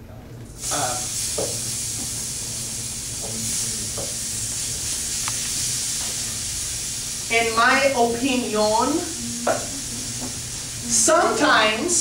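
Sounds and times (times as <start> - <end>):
food sizzling on a griddle: 0.6 - 12.0.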